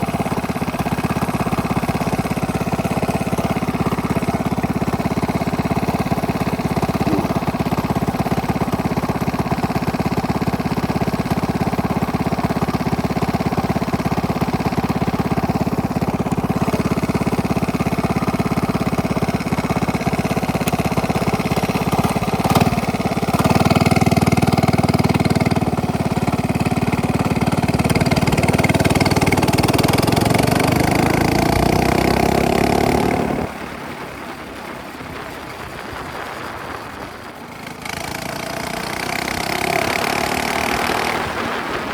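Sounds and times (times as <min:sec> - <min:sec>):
minibike engine revving: 0:00.0 - 0:41.9.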